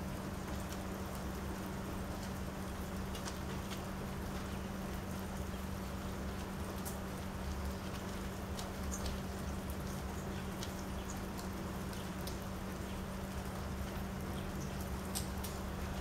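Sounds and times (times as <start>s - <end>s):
rain on a wooden deck: 0.0s - 16.0s.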